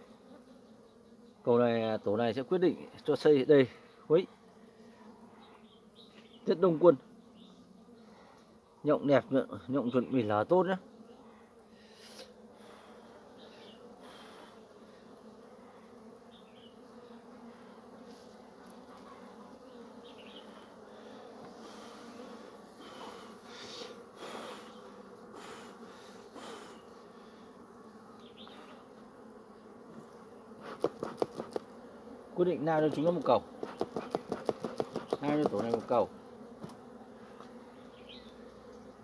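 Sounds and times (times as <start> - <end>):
honey bees humming: 0.0 - 39.0.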